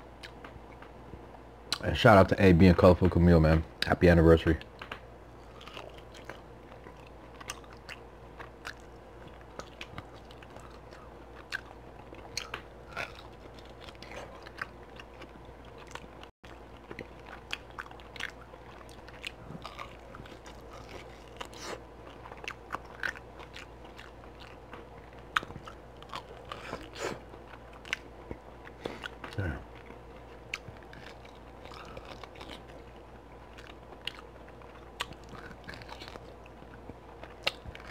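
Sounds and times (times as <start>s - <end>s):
steady low hum: 0.0s - 37.9s
chewing and biting ribs: 0.1s - 1.0s, 4.6s - 37.9s.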